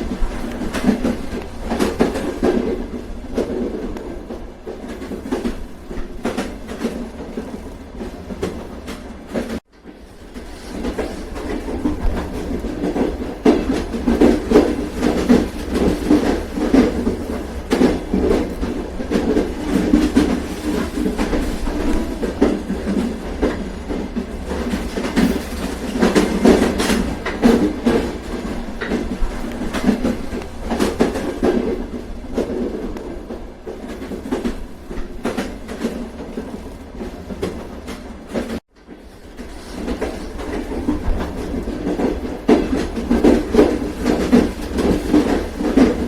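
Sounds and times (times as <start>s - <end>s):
train rumbling on rails: 0.0s - 46.0s
wheels clickety-clack over track: 0.0s - 46.0s.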